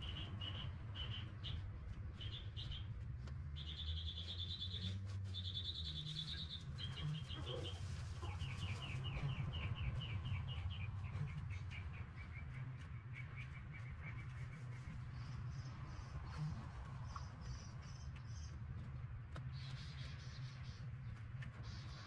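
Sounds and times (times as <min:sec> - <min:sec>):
birds chirping: 0:00.0 - 0:22.0
low steady rumble: 0:00.0 - 0:22.0.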